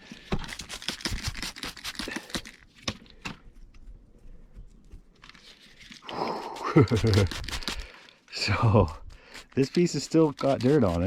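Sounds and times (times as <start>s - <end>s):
stones scraping and clicking: 0.2s - 11.0s.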